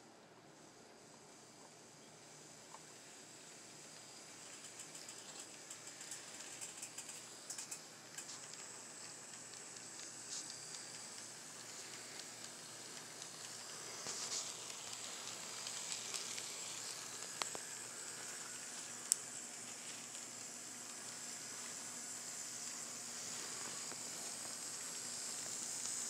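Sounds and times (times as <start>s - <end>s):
model train rolling on rails: 1.6s - 26.0s.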